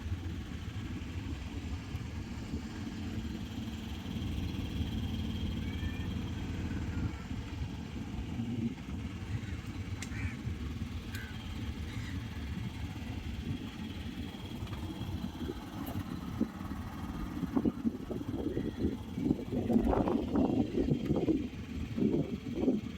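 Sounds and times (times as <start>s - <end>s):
boat engine rumbling: 0.0s - 22.9s.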